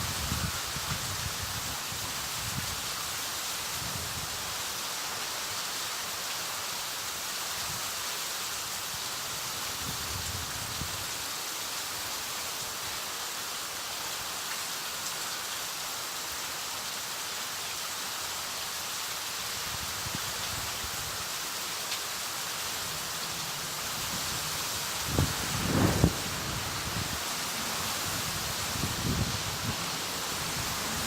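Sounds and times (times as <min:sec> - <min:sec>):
wind and heavy rain rushing: 0:00.0 - 0:31.0.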